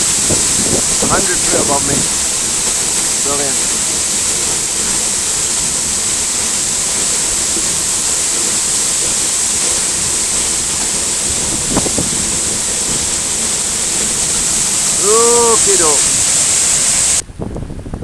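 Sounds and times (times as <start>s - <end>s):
waterfall rushing: 0.0s - 17.2s
rain: 0.0s - 17.8s
wind on microphone: 0.0s - 18.0s.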